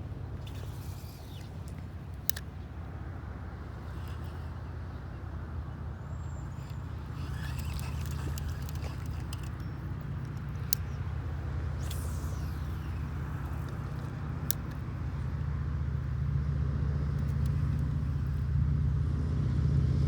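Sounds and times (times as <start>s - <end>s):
motor humming: 0.0s - 19.0s
sharp clicks: 0.4s - 16.3s, 17.1s - 18.4s.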